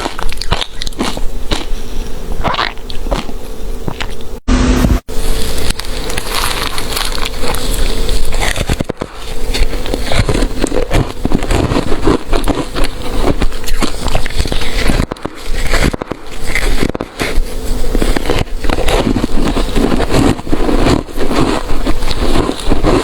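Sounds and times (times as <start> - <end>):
ice crunching being chewed: 0.0 - 4.3, 5.2 - 23.0.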